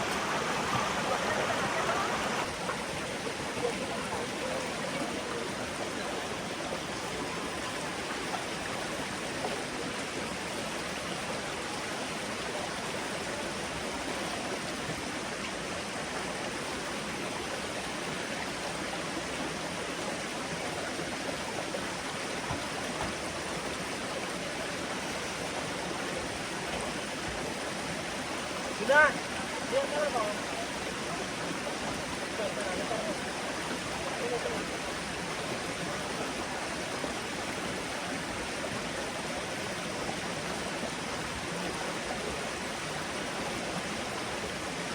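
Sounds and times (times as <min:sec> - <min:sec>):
rushing water: 0:00.0 - 0:44.9.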